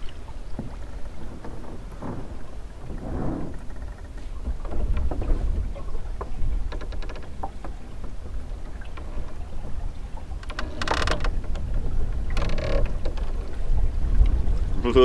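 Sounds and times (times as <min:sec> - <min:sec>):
light knocks and clicks from boat: 0:00.0 - 0:15.0
wind rumbling on microphone: 0:00.0 - 0:15.0.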